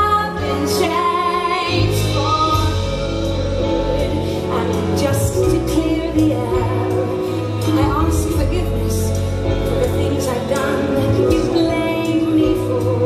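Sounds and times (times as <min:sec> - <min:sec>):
orchestral accompaniment: 0:00.0 - 0:13.0
women singing ballad: 0:00.0 - 0:13.0.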